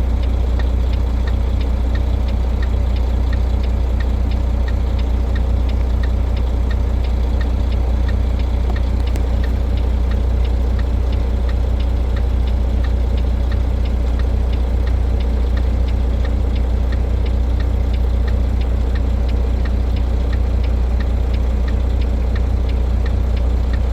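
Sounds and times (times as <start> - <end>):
light regular ticking: 0.0 - 23.9
vehicle engine idling: 0.0 - 23.9.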